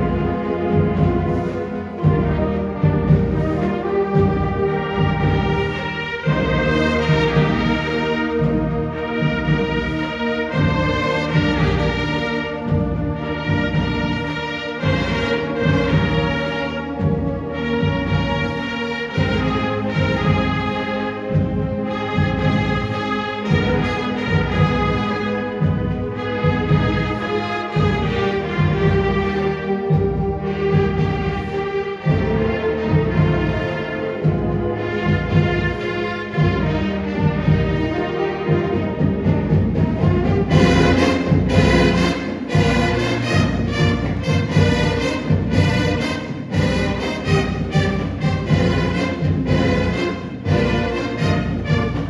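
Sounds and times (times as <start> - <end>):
brass band playing: 0.0 - 52.0
steady drum beat: 0.0 - 52.0.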